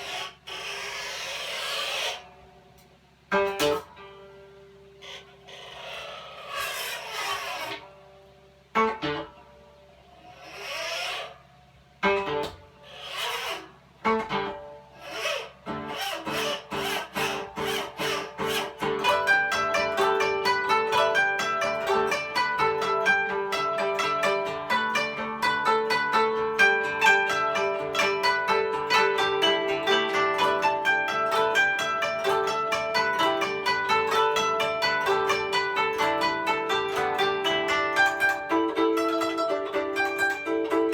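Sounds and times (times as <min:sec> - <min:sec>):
rasping sweeps along koto strings: 0:00.0 - 0:02.4, 0:03.3 - 0:08.2, 0:10.1 - 0:11.4, 0:12.0 - 0:40.9
plucked koto notes: 0:02.7 - 0:05.2, 0:06.6 - 0:10.0, 0:12.0 - 0:13.3, 0:14.0 - 0:40.9.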